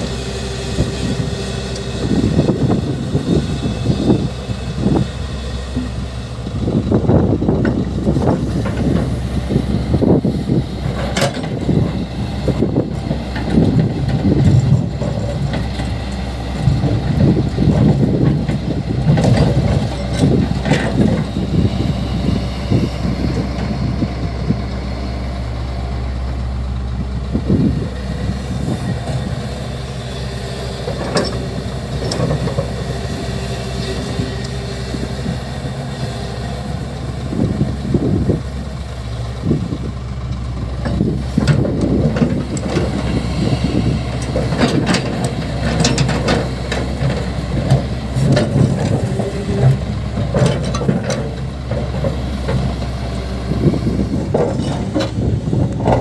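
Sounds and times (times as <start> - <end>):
heavy diesel machinery engine: 0.0 - 56.0.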